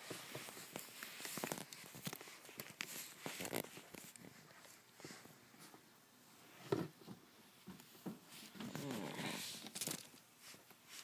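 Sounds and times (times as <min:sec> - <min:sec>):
rubbing and rustling: 0:00.0 - 0:11.0.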